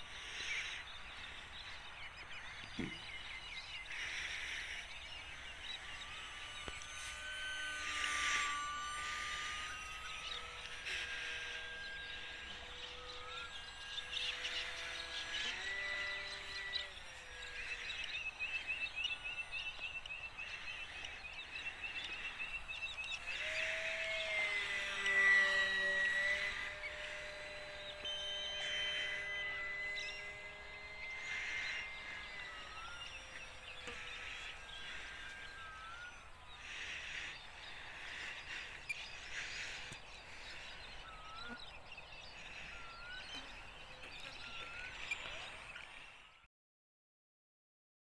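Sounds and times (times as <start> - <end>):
bird chirps: 0.0 - 46.4
model plane motor whining: 0.0 - 46.5.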